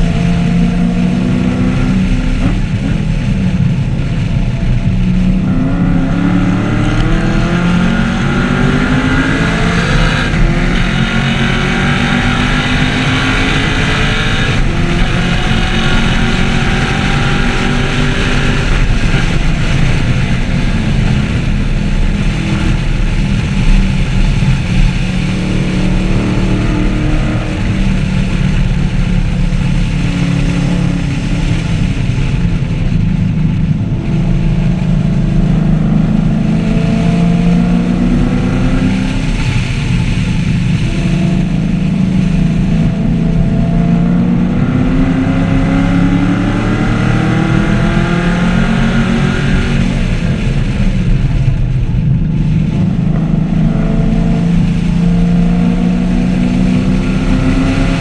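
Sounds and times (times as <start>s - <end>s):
car engine accelerating: 0.0s - 58.0s
wind noise: 0.0s - 58.0s.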